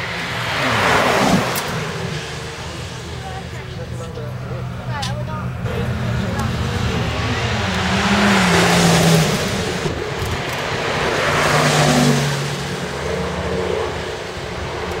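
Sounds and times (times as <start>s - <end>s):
sports car accelerating past: 0.0s - 14.8s.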